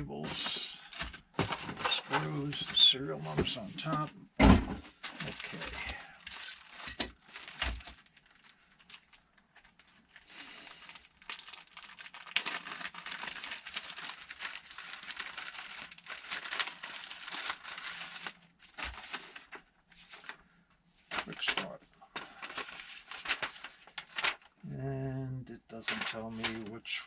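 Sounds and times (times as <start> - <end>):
packaging crinkling and rustling: 0.0 - 4.1, 4.9 - 24.6, 25.8 - 27.0.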